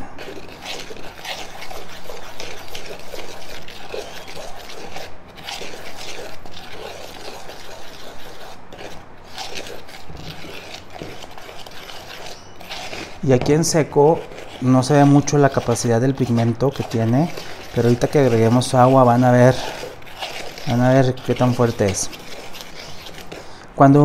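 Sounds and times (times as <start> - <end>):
metal spoon scraping plastic bowl: 0.0 - 23.7.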